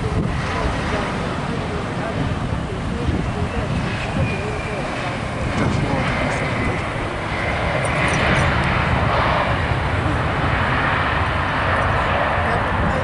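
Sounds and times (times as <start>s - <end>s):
jet airliner engines roaring: 0.0s - 13.0s.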